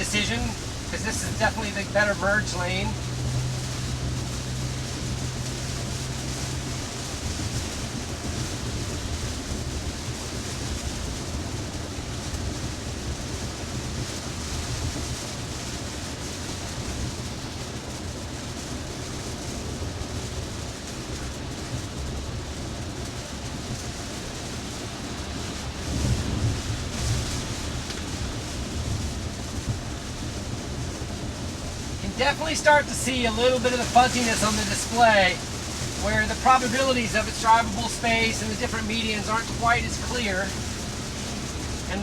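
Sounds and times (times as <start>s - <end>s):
heavy rain: 0.0s - 42.0s
low road rumble: 0.0s - 42.0s
tyre spray on wet road: 0.0s - 42.0s.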